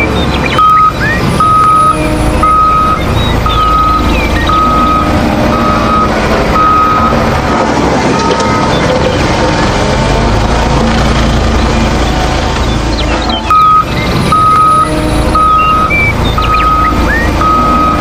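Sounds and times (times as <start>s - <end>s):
vehicle reversing alarm beeping: 0.0s - 9.9s, 11.8s - 18.0s
busy background noise: 0.0s - 18.0s.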